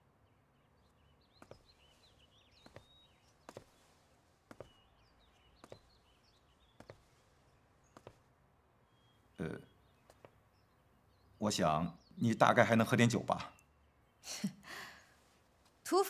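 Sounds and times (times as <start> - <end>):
faint high chirping: 0.0 - 15.4.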